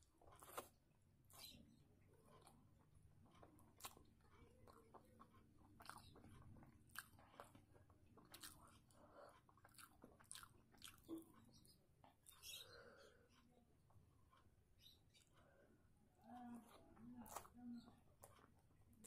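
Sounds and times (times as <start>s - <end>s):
chewing rice: 0.0s - 19.0s.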